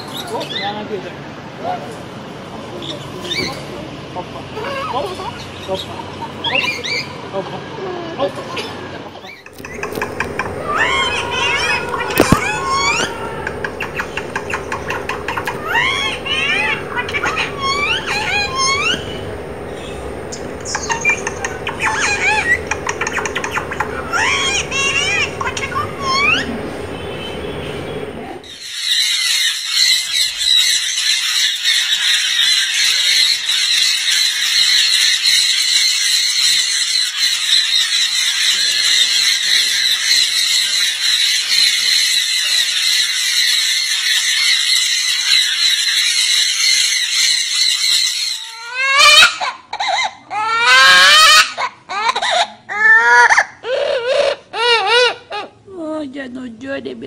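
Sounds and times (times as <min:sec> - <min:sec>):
parrot calling: 0:04.5 - 0:07.2, 0:08.5 - 0:55.6
flock of parrots squawking: 0:08.5 - 0:55.6.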